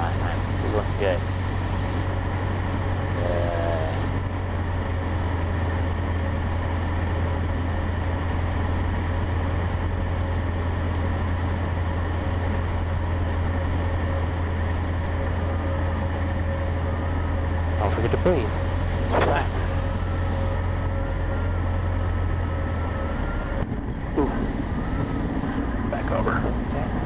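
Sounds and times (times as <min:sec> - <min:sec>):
small plane engine droning: 0:00.0 - 0:27.0.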